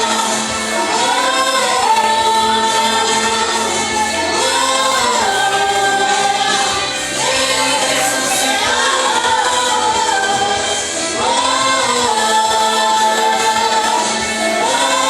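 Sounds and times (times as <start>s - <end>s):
vocal group singing: 0.0s - 15.0s.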